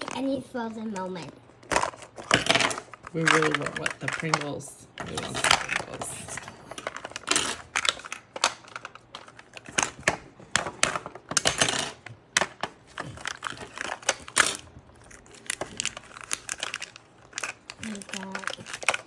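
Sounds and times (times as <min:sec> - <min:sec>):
wrapping crinkling: 0:00.0 - 0:10.2, 0:12.8 - 0:19.0.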